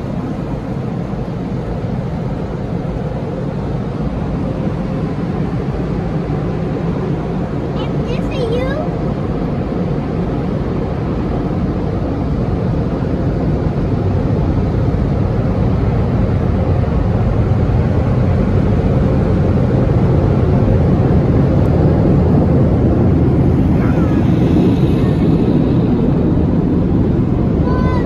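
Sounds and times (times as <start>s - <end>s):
car wash equipment roaring: 0.0s - 28.0s.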